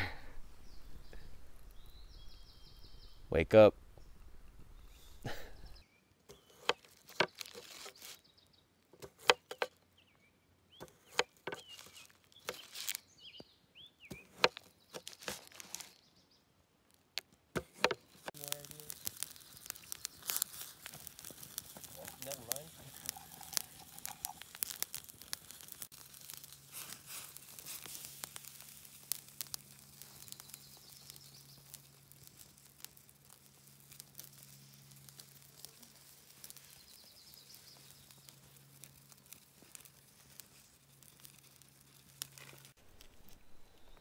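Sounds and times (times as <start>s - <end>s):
fire crackling: 0.0s - 44.0s.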